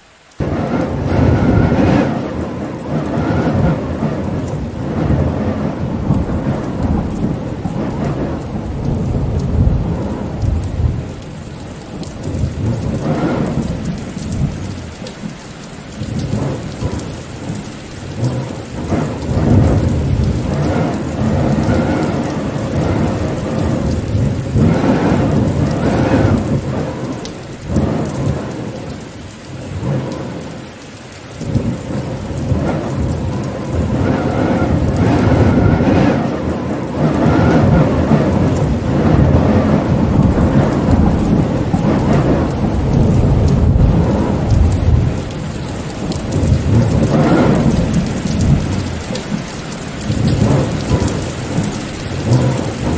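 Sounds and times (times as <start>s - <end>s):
hiss of rain: 0.0s - 52.9s
deep rumbling wind: 0.4s - 29.0s, 31.4s - 52.9s.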